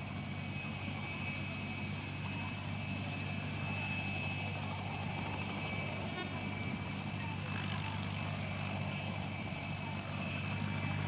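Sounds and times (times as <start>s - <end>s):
helicopter in low flight: 0.0s - 11.0s
high engine whine: 0.0s - 11.0s.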